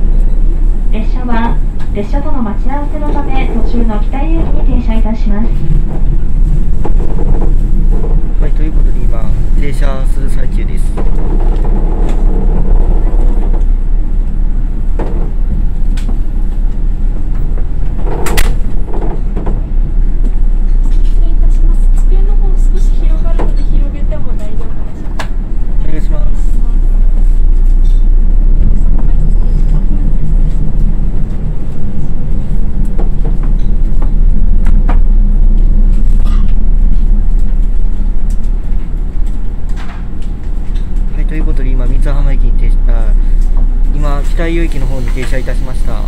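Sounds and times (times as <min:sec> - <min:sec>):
railcar rumble: 0:00.0 - 0:46.0.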